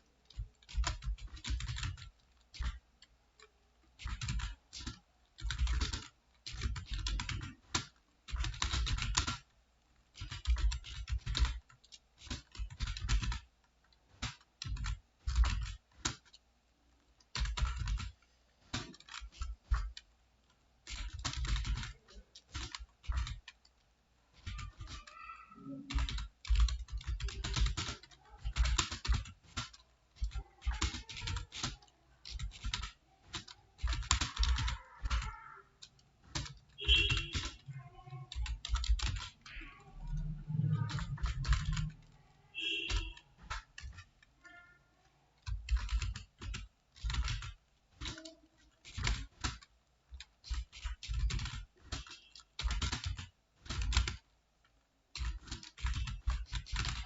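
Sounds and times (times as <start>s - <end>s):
computer keyboard typing: 0.0s - 16.4s, 17.0s - 44.8s, 45.4s - 54.4s, 55.1s - 57.0s.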